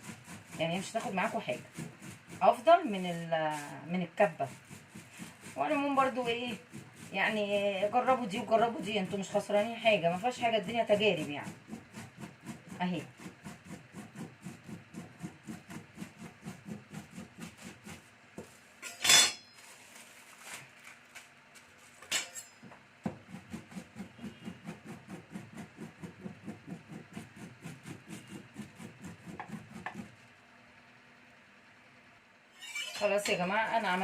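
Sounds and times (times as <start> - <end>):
knife chopping leaves: 0.0 - 22.4, 23.0 - 30.3.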